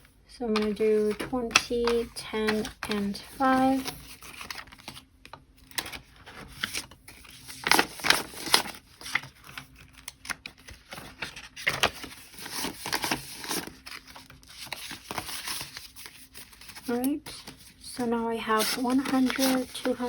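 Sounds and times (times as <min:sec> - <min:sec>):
paper banknotes rustling: 0:00.5 - 0:20.0.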